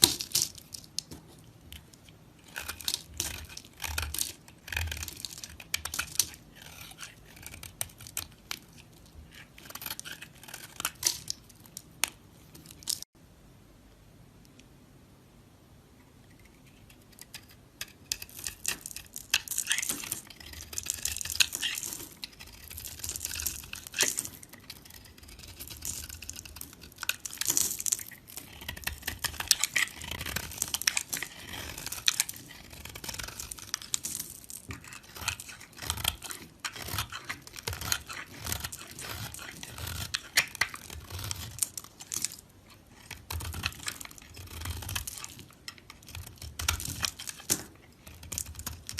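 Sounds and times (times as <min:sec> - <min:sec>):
knife crunching through dry soap: 0:00.0 - 0:13.0, 0:17.2 - 0:48.9.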